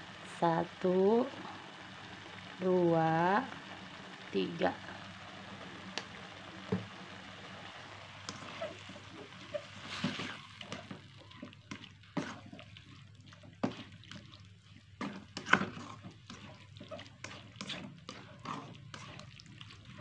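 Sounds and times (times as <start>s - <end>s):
sauce bubbling in a pan: 0.0s - 20.0s.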